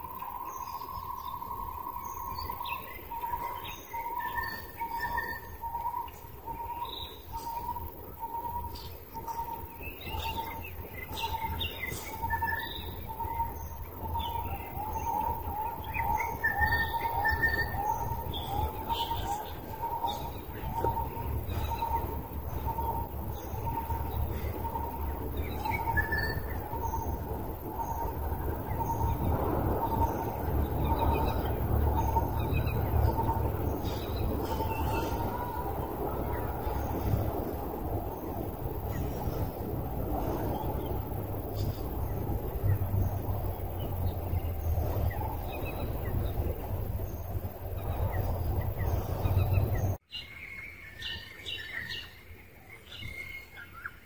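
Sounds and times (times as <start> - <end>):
steady low rumble: 0.0 - 50.0
birds chirping: 0.0 - 54.0.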